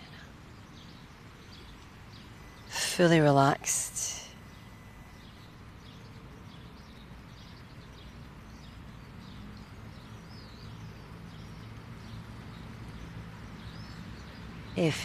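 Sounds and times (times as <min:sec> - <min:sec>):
birds calling: 0:00.0 - 0:15.0
outdoor ambient noise: 0:00.0 - 0:15.0.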